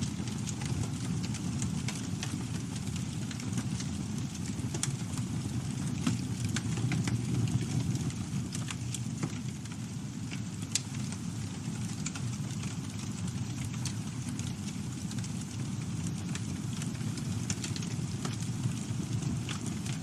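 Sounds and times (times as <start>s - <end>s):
burning wood crackling and popping: 0.0s - 20.0s
campfire flames rumbling: 0.0s - 20.0s.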